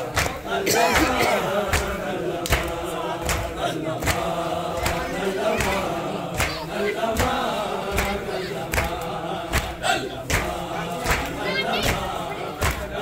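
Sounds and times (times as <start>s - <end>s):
hands slapping chests: 0.0s - 13.0s
men chanting in chorus: 0.0s - 13.0s.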